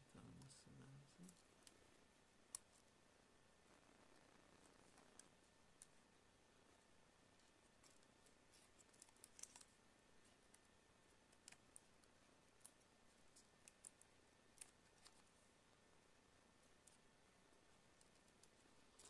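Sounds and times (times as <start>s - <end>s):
faint clicks of small parts: 0.1s - 2.9s, 3.7s - 6.0s, 6.7s - 15.5s, 16.6s - 19.0s.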